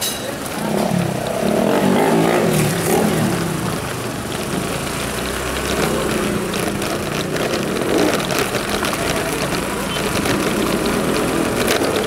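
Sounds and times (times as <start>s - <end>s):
street noise: 0.0s - 12.0s
vehicle engine running: 0.5s - 12.0s.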